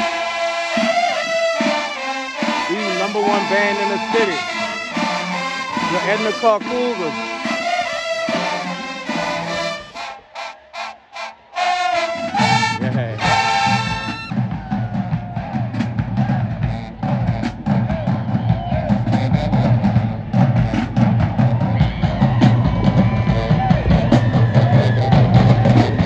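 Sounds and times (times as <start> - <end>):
held horn notes: 0.0 - 14.5, 16.4 - 26.0
marching band playing: 0.0 - 26.0.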